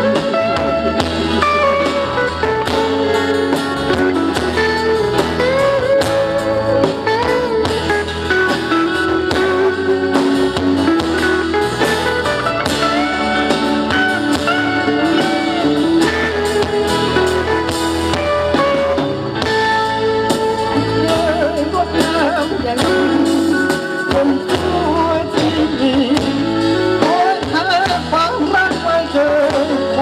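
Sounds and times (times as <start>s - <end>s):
guitar bending melody: 0.0s - 30.0s
live band playing instrumental: 0.0s - 30.0s.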